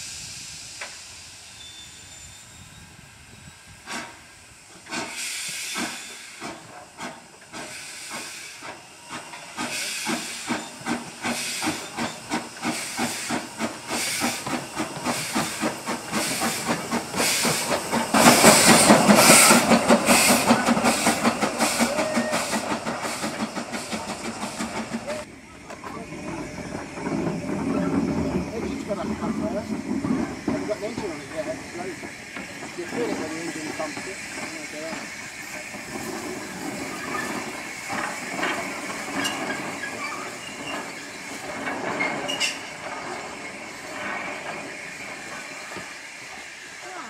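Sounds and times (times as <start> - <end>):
steam hissing: 0.0 - 47.0
steam locomotive chuffing: 0.0 - 47.0.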